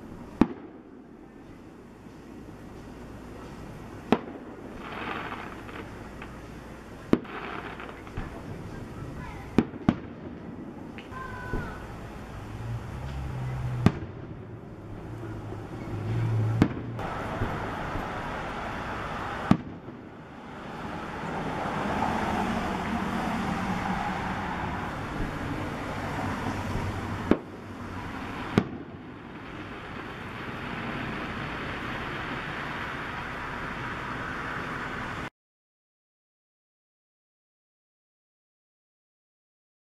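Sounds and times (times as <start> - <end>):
fireworks bursting with bangs: 0.0 - 35.2
continuous rushing background noise: 0.0 - 35.3.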